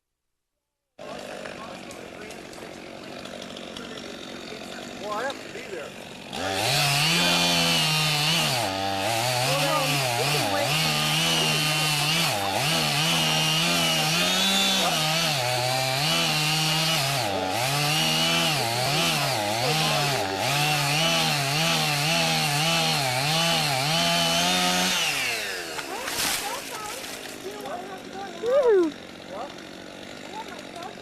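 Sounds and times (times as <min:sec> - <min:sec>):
chainsaw revving: 0:01.0 - 0:31.0.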